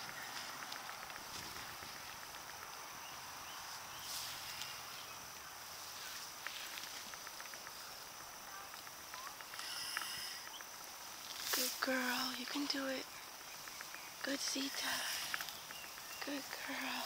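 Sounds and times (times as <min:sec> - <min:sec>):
high insect drone: 0:00.0 - 0:17.0
small ticks: 0:00.0 - 0:17.0.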